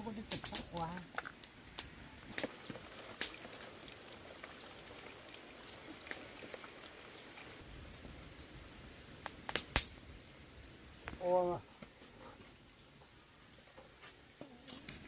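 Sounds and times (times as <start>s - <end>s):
faint scattered ticks: 0.0s - 8.6s, 9.2s - 15.0s.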